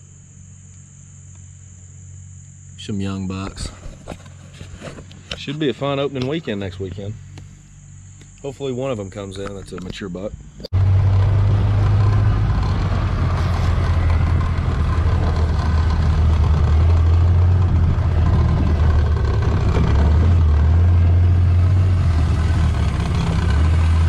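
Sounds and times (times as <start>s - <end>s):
utility vehicle engine droning: 0.0s - 24.0s
rough ride noise: 3.3s - 24.0s.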